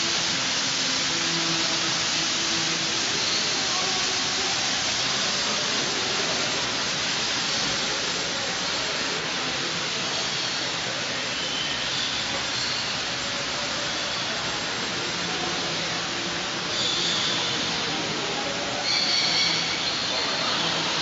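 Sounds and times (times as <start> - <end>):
steady rushing hiss: 0.0 - 21.0.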